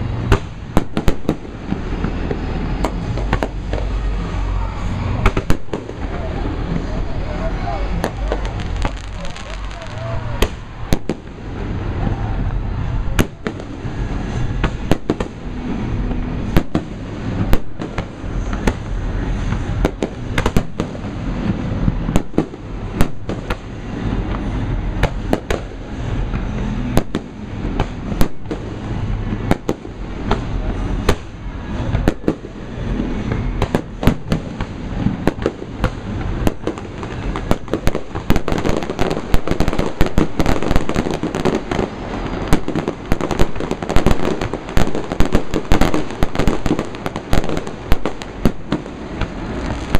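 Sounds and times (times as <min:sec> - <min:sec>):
fireworks bangs: 0:00.0 - 0:49.9
fireworks crackling: 0:00.0 - 0:49.9
low rumble of booms: 0:00.0 - 0:49.9.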